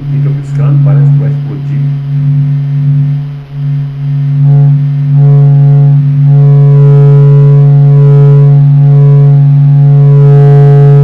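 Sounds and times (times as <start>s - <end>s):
chord of held tones: 0.0s - 11.0s
loud steady low hum: 0.0s - 11.0s.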